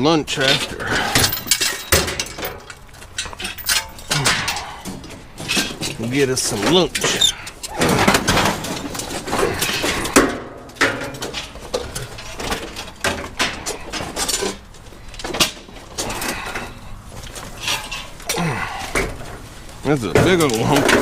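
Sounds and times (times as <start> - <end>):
scrap steel clanking: 0.3 - 21.0.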